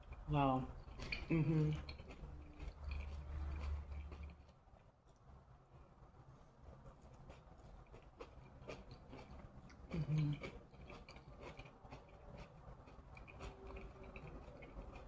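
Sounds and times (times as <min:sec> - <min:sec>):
low hum from person: 0:00.0 - 0:15.0
person chewing food: 0:00.0 - 0:15.0.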